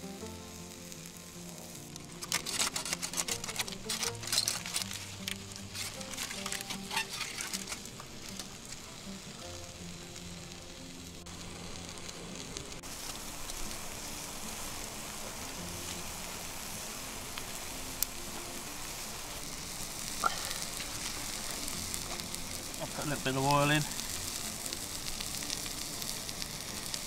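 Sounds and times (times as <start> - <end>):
background music with held notes: 0.0 - 27.0
food sizzling in a pan: 0.0 - 27.0.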